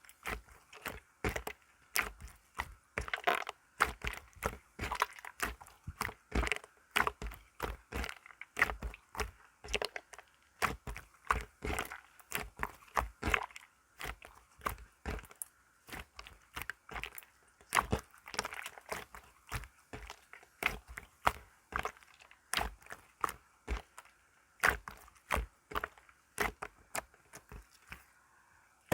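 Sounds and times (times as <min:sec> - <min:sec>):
crackles and clicks from mixing: 0:00.0 - 0:28.9.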